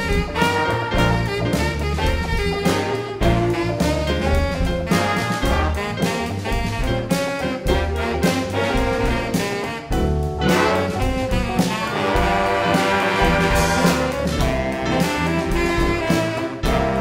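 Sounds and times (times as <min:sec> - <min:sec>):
big band jazz funk: 0:00.0 - 0:17.0.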